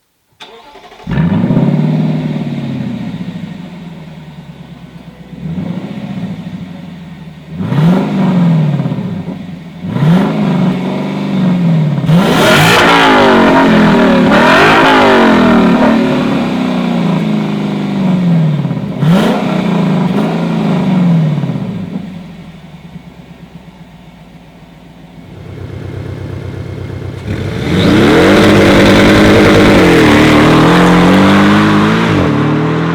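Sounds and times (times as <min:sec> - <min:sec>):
sports car engine revving: 0:00.8 - 0:23.1, 0:25.2 - 0:32.9.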